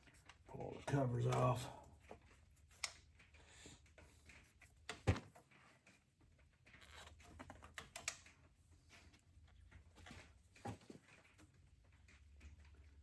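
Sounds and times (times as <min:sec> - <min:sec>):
light clicks and rattles: 0:00.0 - 0:13.0.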